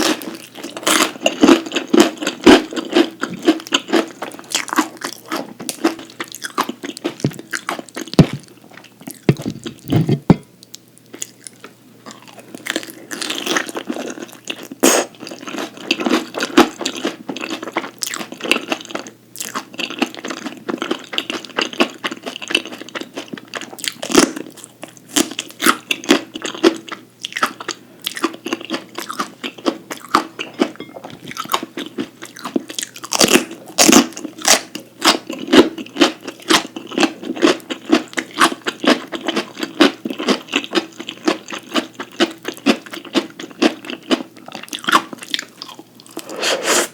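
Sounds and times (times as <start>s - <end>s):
person chewing crisp food: 0.0s - 46.9s.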